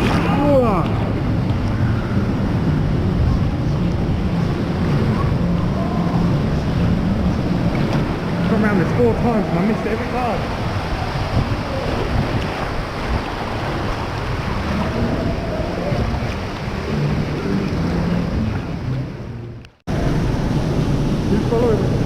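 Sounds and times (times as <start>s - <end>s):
water rushing and splashing: 0.0s - 22.0s
wind buffeting microphone: 0.0s - 22.0s.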